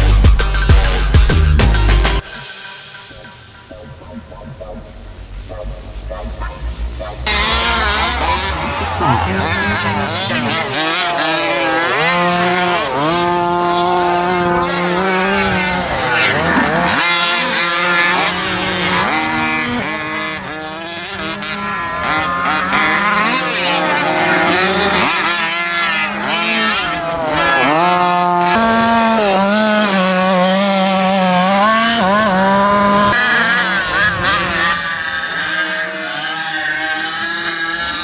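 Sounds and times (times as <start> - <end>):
small two-stroke engines revving: 4.9 - 38.0.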